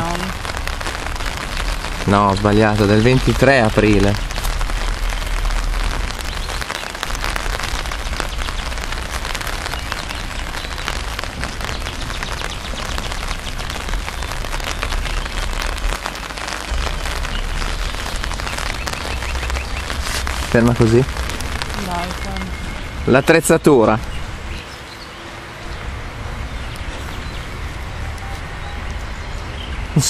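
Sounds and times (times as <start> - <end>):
low rumble: 0.0 - 24.8
torrential rain patter: 0.0 - 30.0.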